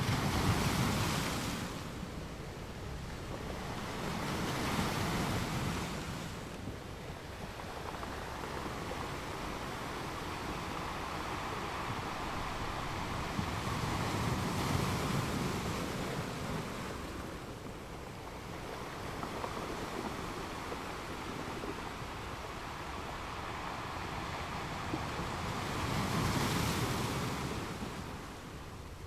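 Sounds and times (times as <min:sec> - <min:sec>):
wind buffeting microphone: 0:00.0 - 0:29.0
sea water rushing and slapping: 0:02.9 - 0:28.8.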